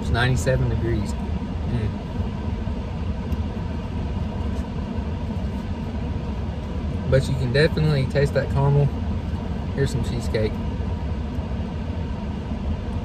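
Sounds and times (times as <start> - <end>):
car idling from inside: 0.0 - 13.0.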